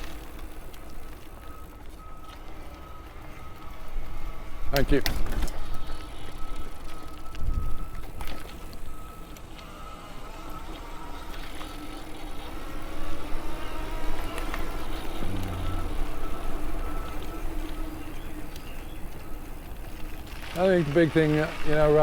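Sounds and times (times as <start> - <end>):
tyres rumbling on trail: 0.0 - 22.0
wind: 0.0 - 22.0
electric motor whine: 2.2 - 22.0.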